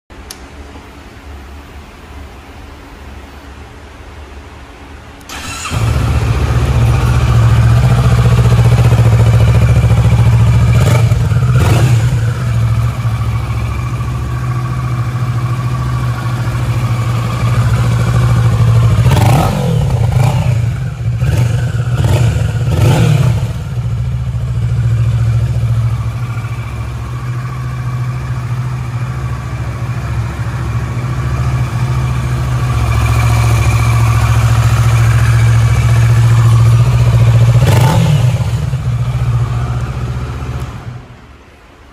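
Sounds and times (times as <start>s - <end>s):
motorcycle engine idling and revving: 5.3s - 41.4s.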